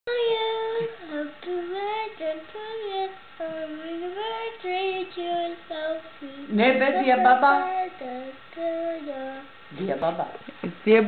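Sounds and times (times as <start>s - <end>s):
high voice singing wordlessly: 0.1s - 9.8s.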